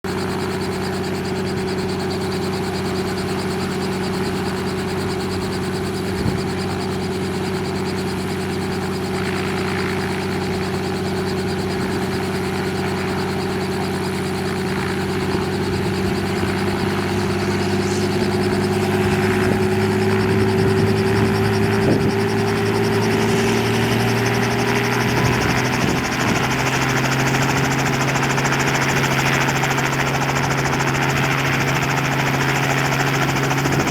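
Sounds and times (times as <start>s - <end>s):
helicopter engine drone: 0.0s - 33.9s.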